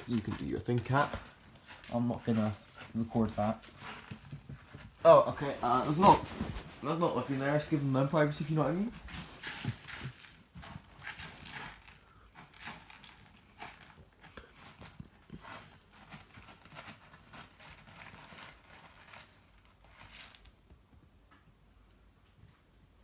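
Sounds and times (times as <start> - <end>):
kittens scratching and rustling: 0.0 - 21.1.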